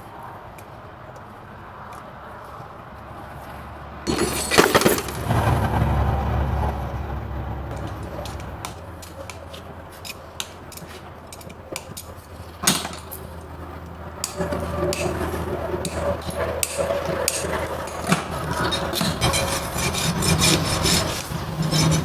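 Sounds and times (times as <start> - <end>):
scraping of hoof: 3.4 - 6.8, 7.6 - 22.0.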